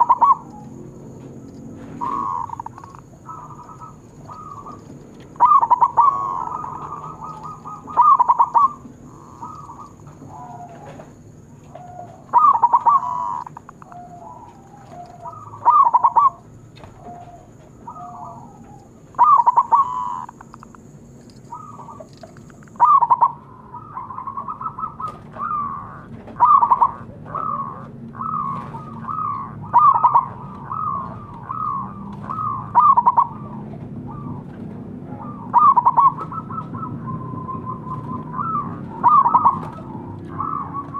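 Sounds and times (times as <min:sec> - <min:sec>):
doves cooing: 0:00.0 - 0:40.9.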